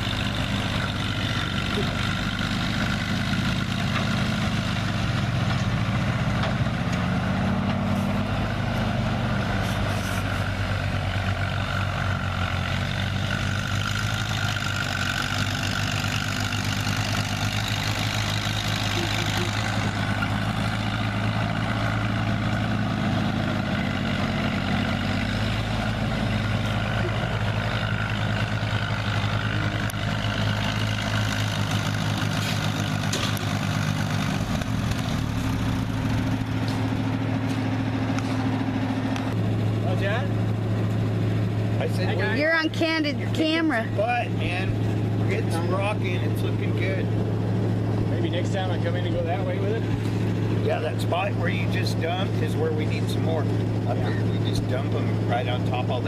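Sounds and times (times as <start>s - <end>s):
dump truck engine running: 0.0s - 56.0s.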